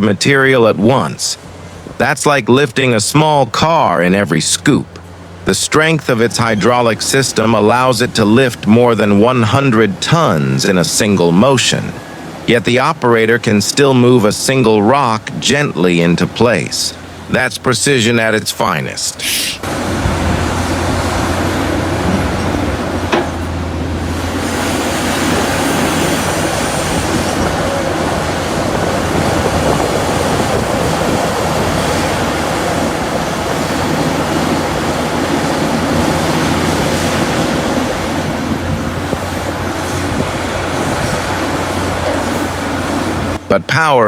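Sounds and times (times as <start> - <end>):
continuous rumbling noise: 0.0 - 44.0
diesel machinery engine drone: 0.0 - 44.0.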